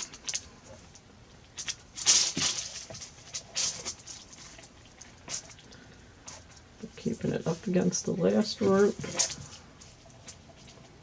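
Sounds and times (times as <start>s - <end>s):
rope rustling and scraping: 0.0s - 6.9s, 8.3s - 10.9s.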